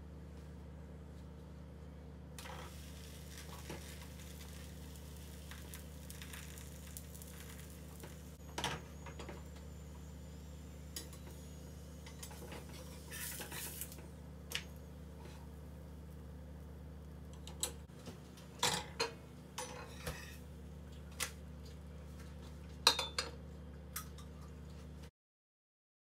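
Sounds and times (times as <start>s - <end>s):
steady low hum: 0.0s - 25.1s
dough cooking in a frying pan: 2.4s - 25.0s.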